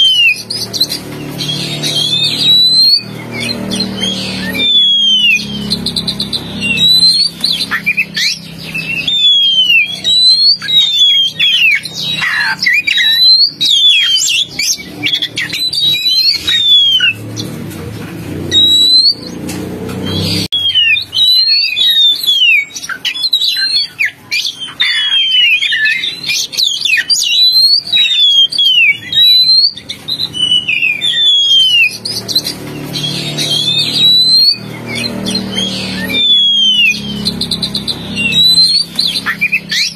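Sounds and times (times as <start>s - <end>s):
bird song whistled notes: 0.0s - 17.6s, 18.4s - 39.9s.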